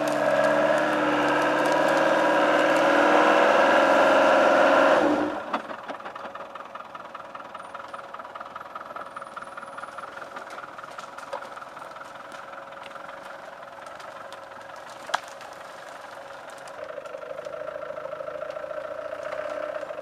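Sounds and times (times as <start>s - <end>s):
off-road vehicle engine revving: 0.0s - 5.8s, 9.6s - 20.0s.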